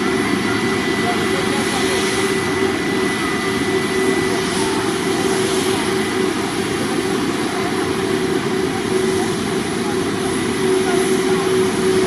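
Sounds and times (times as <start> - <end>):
constant engine tones: 0.0 - 12.0
jet engines running: 0.0 - 12.0.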